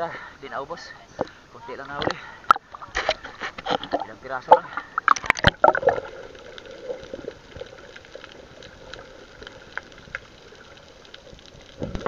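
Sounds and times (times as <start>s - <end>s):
water sloshing and trickling: 1.0s - 12.0s.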